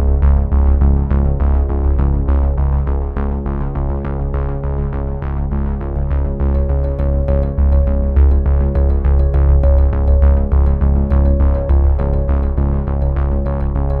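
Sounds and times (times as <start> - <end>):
synthesizer background music: 0.0 - 14.0.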